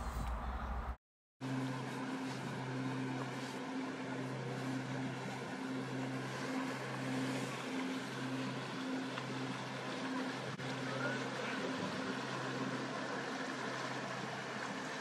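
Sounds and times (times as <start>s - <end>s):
engine humming: 0.0s - 15.0s
outdoor noise: 0.0s - 15.0s.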